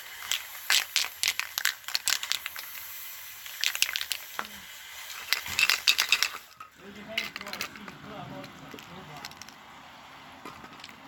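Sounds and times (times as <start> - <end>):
sharp clicks and crinkling: 0.0 - 9.6.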